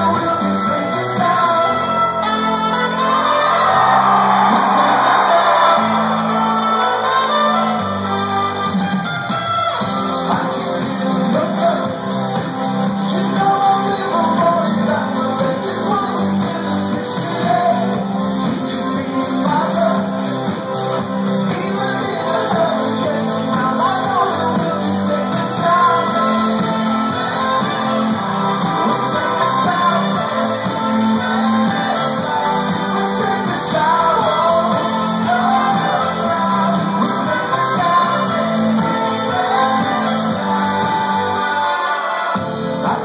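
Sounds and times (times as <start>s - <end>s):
lead vocals: 0.0s - 8.7s, 9.7s - 43.0s
live band playing: 0.0s - 43.0s.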